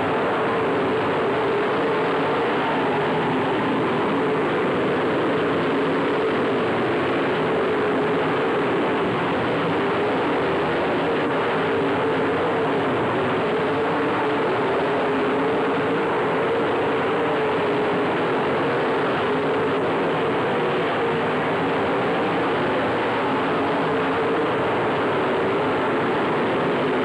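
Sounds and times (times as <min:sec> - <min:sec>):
race car engines droning: 0:00.0 - 0:27.0.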